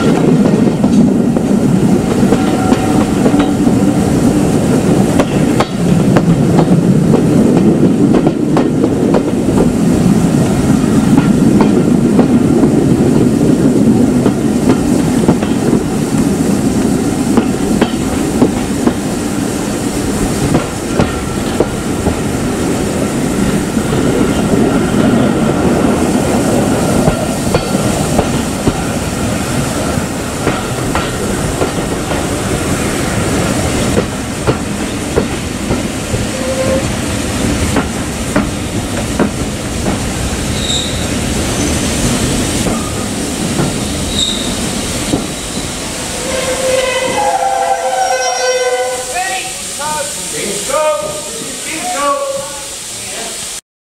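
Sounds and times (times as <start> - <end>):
train rumbling on track: 0.0 - 53.6.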